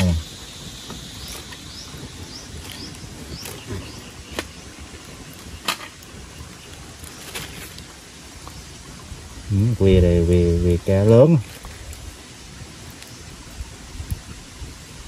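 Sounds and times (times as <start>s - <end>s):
wood fire crackling and hissing: 0.0s - 15.0s.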